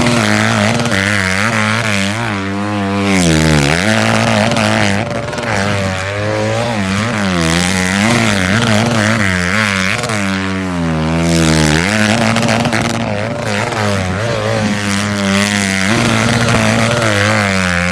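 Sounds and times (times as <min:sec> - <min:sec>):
dirt bike engine revving: 0:00.0 - 0:17.9.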